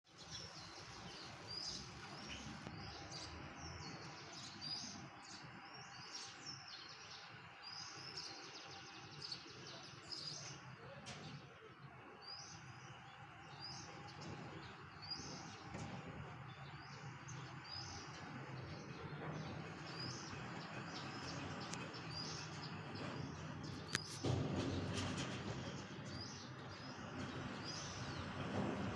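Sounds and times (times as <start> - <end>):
outdoor background noise: 0.0 - 28.9
small birds chirping: 0.1 - 28.8.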